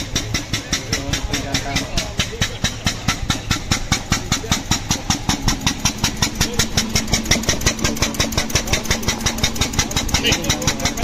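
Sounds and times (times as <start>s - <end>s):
engine idling chug: 0.0s - 11.0s.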